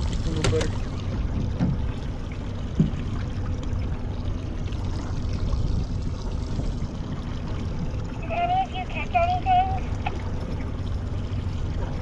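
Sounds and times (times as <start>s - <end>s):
low hum: 0.0s - 12.0s
water sloshing against boat hull: 0.0s - 12.0s.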